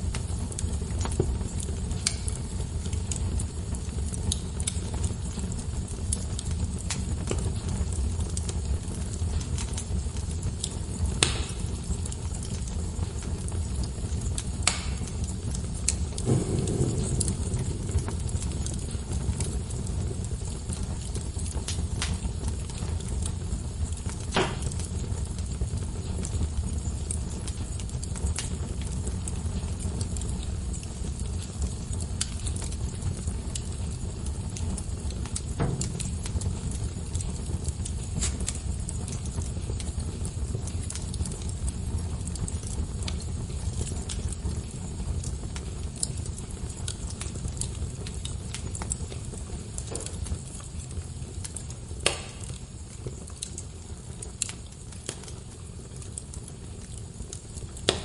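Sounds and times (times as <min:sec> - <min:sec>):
fire crackles and pops: 0:00.0 - 0:58.0
low rumble of flames: 0:00.0 - 0:58.0.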